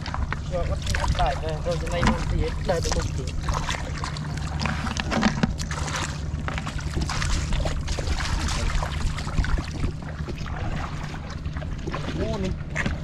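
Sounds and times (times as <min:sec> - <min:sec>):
bare feet squelching in mud: 0:00.0 - 0:13.0
steady low rumble: 0:00.0 - 0:13.0.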